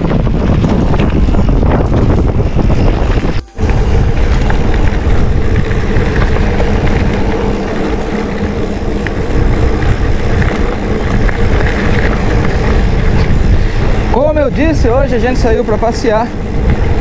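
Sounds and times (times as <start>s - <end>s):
bike tyres rolling on gravel: 0.0s - 17.0s
wind buffeting microphone: 0.0s - 17.0s.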